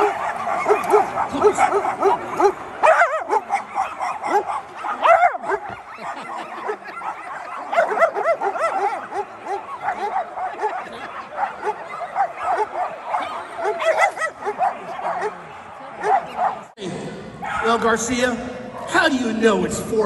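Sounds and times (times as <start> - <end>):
dogs barking and yipping: 0.0 - 16.8, 17.4 - 17.8.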